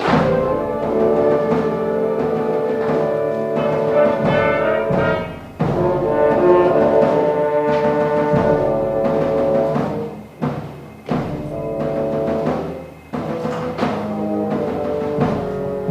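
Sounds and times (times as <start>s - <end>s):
timpani: 0.0s - 15.9s
wind band playing: 0.0s - 15.9s.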